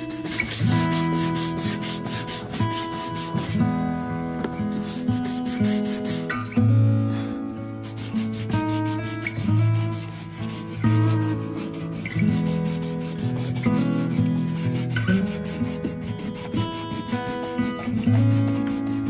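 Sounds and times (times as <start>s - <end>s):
sandpaper rasping on plastic: 0.0s - 3.7s, 4.4s - 6.5s, 7.8s - 19.0s
guitar music: 0.0s - 19.0s.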